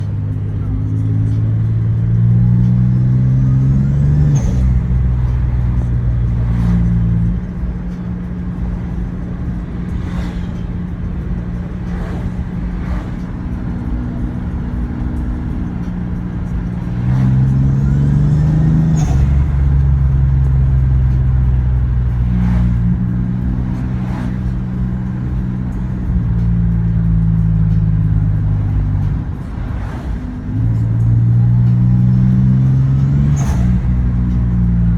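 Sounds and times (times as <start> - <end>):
car engine running: 0.0 - 34.9
engine whine: 0.0 - 34.9.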